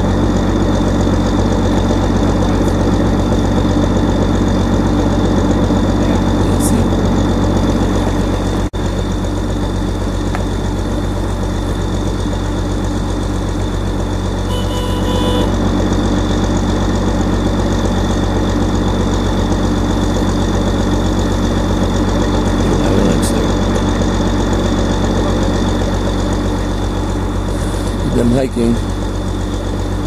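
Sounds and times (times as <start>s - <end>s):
snowcat engine droning: 0.0s - 30.0s.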